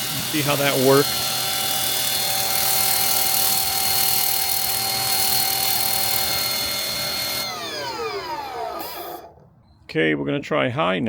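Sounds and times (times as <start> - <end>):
electric motor whine: 0.0 - 9.4.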